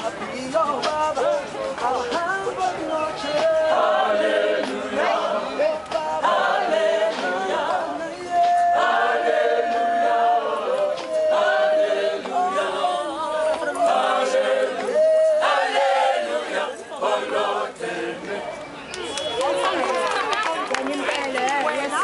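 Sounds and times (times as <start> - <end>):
choir singing in harmony: 0.8 - 18.6.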